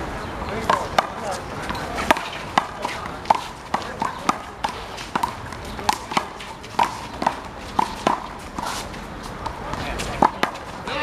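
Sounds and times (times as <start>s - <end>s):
shoe squeaks: 0.8s - 11.0s.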